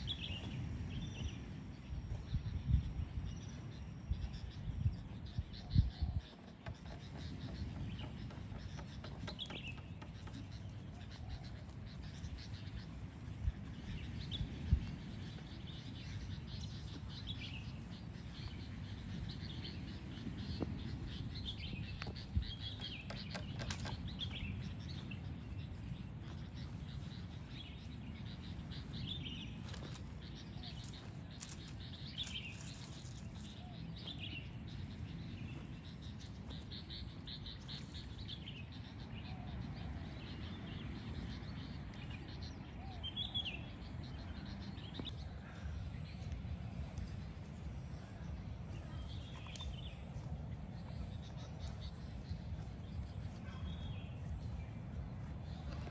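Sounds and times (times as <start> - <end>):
low outdoor background noise: 0.0 - 55.9
small birds chirping: 0.0 - 55.9.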